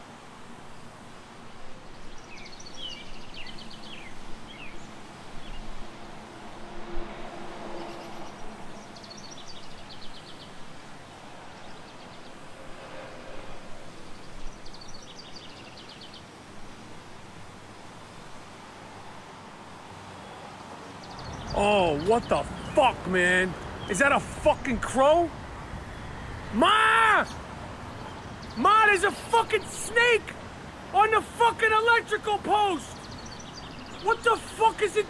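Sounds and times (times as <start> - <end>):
steady background noise: 0.0 - 35.0.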